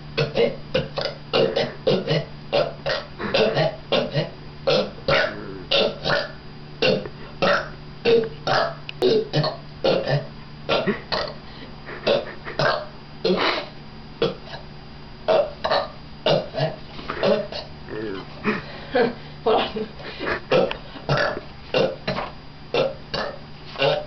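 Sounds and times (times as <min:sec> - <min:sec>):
short burps: 0:00.2 - 0:11.4, 0:12.0 - 0:14.6, 0:15.3 - 0:18.3, 0:20.5 - 0:24.0.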